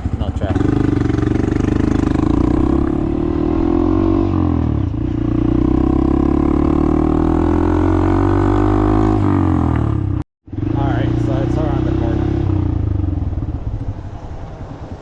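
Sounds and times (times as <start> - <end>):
motorcycle engine under power: 0.0 - 15.0.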